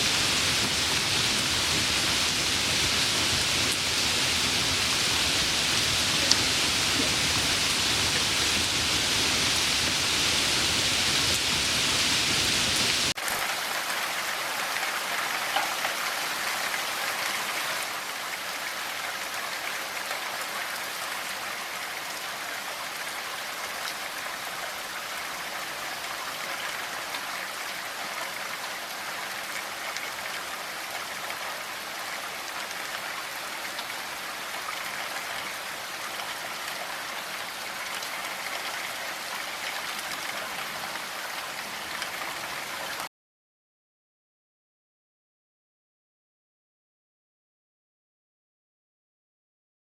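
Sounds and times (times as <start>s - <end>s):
running water noise: 0.0s - 43.1s.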